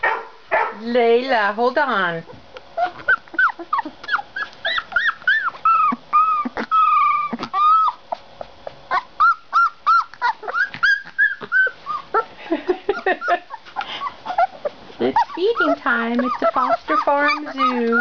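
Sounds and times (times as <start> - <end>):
puppies whimpering: 2.2 - 18.0.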